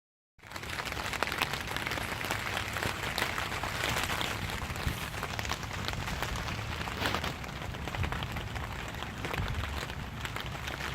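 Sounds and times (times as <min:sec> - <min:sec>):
rain falling: 0:00.4 - 0:10.9
sharp raindrop hits: 0:00.4 - 0:10.9.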